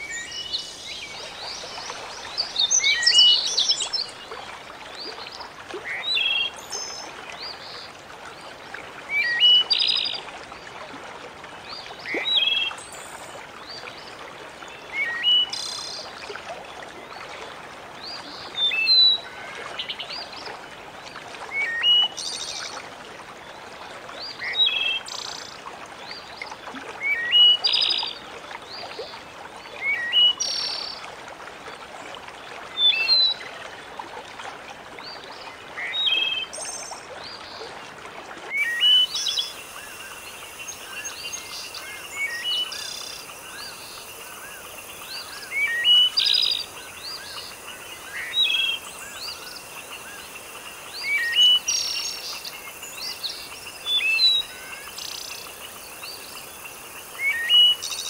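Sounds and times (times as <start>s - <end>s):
flowing water hiss: 0.0s - 58.0s.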